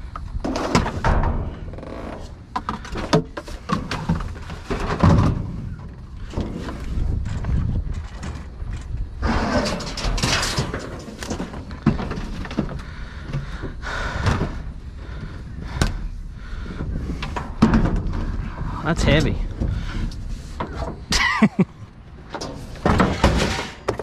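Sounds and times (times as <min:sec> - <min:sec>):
low steady rumble: 0:00.0 - 0:23.2
junk knocking and clanking: 0:00.0 - 0:24.0.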